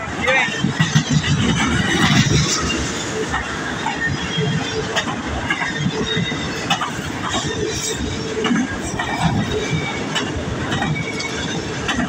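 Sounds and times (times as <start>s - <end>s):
freight train rumbling past: 0.0s - 12.0s
train wheels clacking on track: 0.0s - 12.0s.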